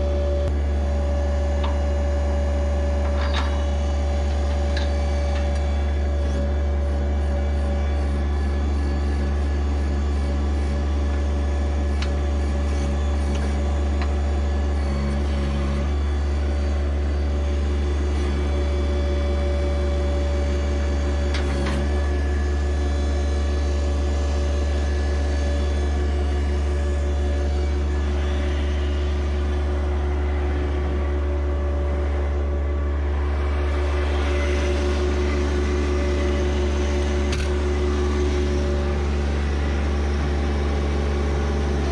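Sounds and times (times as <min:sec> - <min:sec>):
backhoe digging concrete: 0:00.0 - 0:41.9
diesel tractor engine running: 0:00.0 - 0:41.9.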